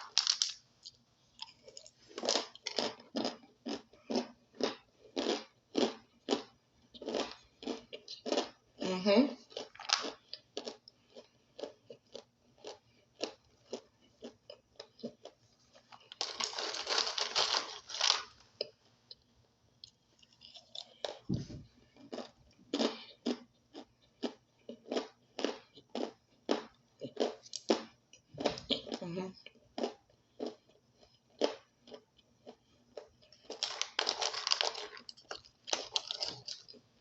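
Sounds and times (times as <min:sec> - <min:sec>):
chewing crunchy food: 0:00.0 - 0:08.8, 0:09.4 - 0:19.2, 0:19.8 - 0:37.0.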